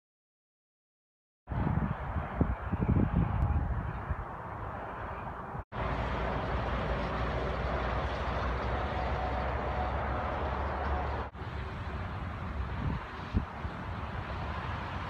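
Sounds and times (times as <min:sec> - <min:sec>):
distant highway traffic: 0:01.5 - 0:15.0.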